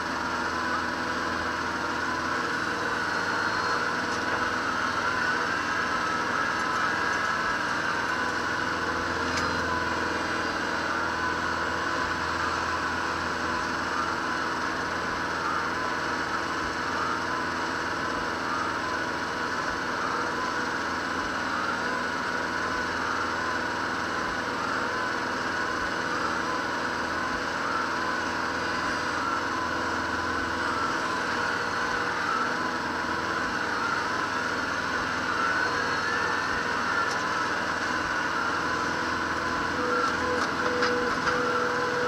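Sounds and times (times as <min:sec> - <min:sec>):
tractor diesel engine: 0:00.0 - 0:42.0
wavering whine: 0:00.0 - 0:42.0.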